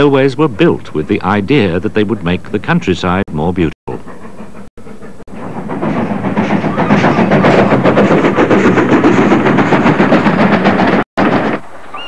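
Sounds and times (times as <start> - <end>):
rattling train wheels: 0.0 - 12.0
steam locomotive exhaust beats: 0.0 - 12.0.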